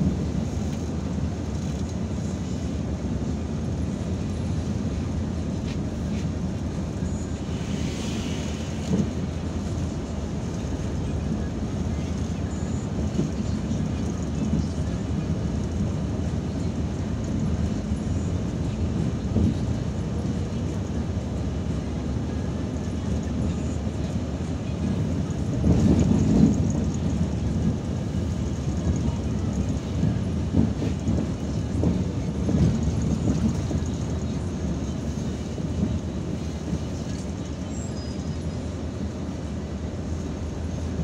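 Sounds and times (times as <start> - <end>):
bus engine: 0.0 - 41.0
road noise: 0.0 - 41.0.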